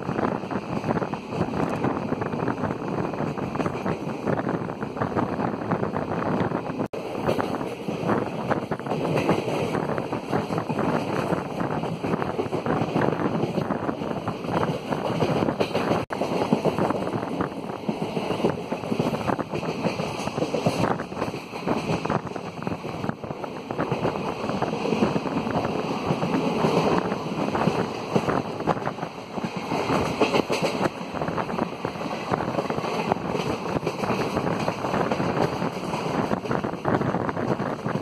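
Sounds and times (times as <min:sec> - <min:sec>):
train rumbling on track: 0:00.0 - 0:38.0
wind rushing past microphone: 0:00.0 - 0:38.0.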